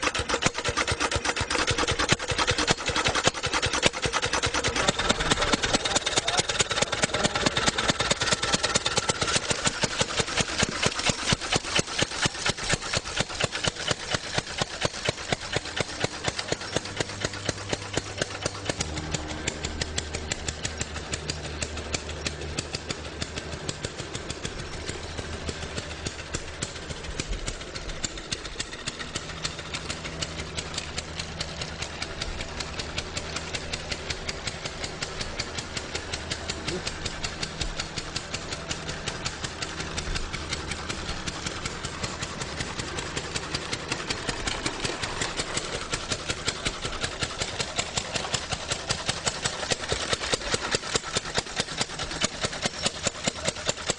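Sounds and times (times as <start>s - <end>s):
motorcycle engine running slowly: 0.0s - 53.9s.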